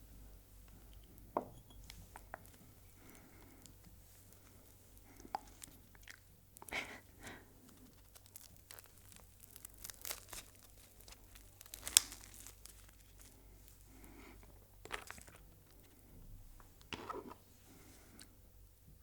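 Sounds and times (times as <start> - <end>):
food crackling and crunching: 0.6 - 18.3.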